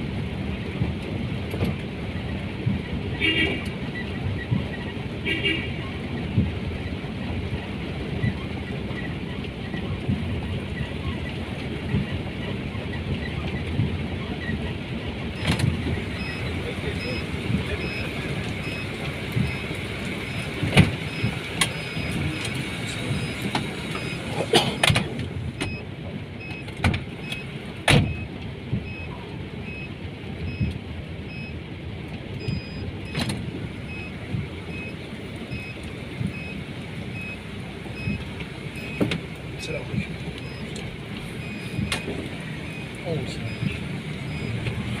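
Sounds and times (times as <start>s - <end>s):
tyre noise on wet road: 0.0s - 45.0s
vehicle engine and road rumble: 0.0s - 45.0s.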